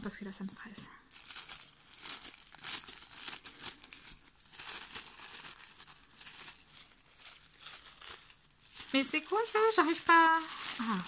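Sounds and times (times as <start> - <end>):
plastic packaging film crinkling: 1.1 - 11.0.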